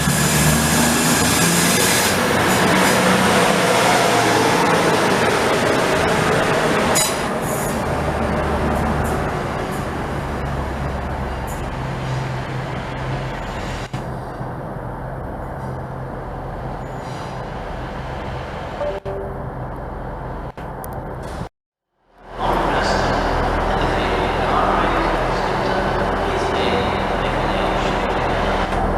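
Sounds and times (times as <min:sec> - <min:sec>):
train passing: 0:00.0 - 0:21.3, 0:22.2 - 0:28.9.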